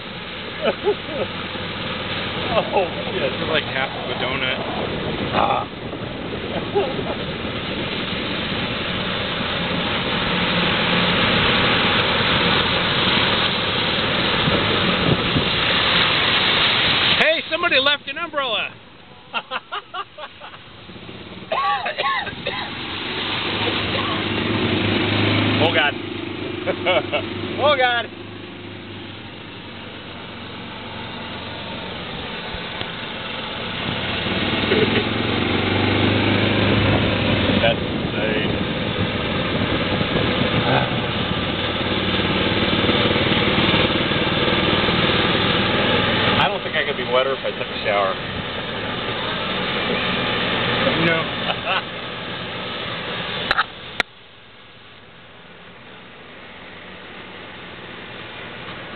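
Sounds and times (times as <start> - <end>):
heavy rain rushing: 0.0 - 58.9
water splashing: 0.0 - 58.9
wind: 0.0 - 58.9.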